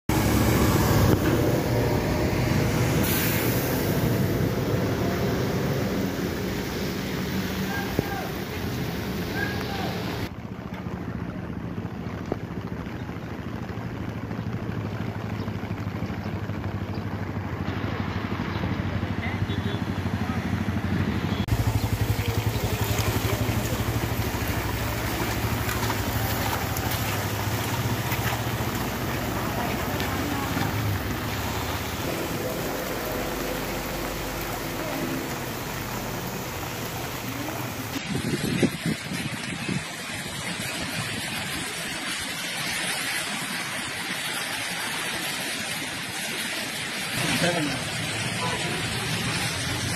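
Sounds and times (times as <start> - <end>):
road traffic hum: 0.1 - 49.9.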